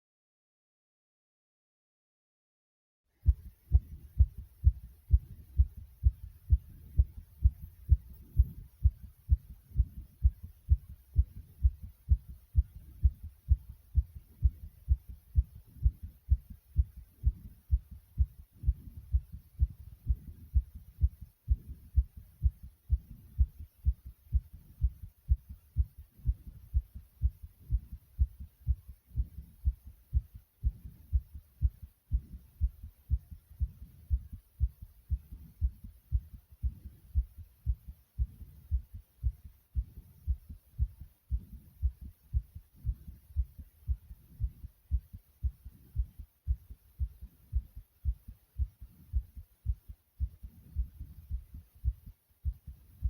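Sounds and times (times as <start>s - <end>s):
heart pounding: 3.2s - 53.0s.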